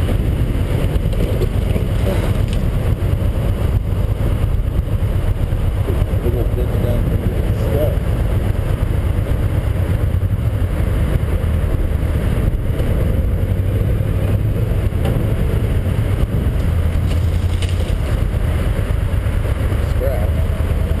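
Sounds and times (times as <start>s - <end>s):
motorcycle engine running: 0.0s - 21.0s
rush of riding noise: 0.0s - 21.0s.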